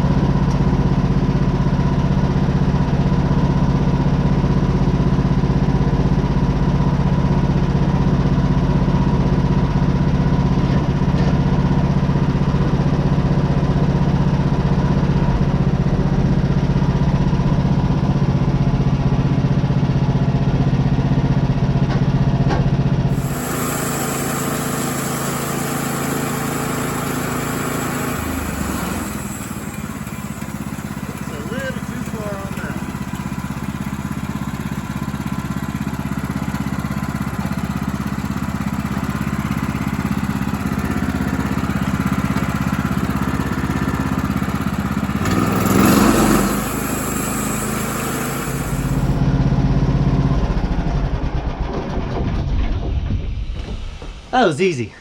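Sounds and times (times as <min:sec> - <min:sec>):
sawmill gas engine running: 0:00.0 - 0:52.6.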